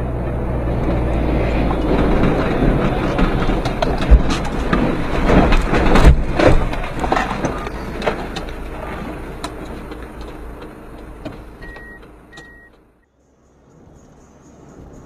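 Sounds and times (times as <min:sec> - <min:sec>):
vehicle scraping and clattering: 0:00.0 - 0:13.1.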